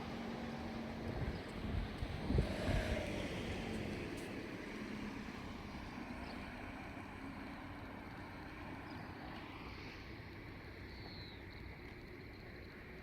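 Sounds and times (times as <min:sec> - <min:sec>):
passing vehicle rumble: 0:00.0 - 0:10.6.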